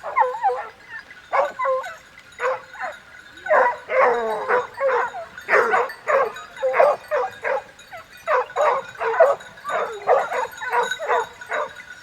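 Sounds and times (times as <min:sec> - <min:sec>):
dogs yelping and baying: 0:00.0 - 0:11.9.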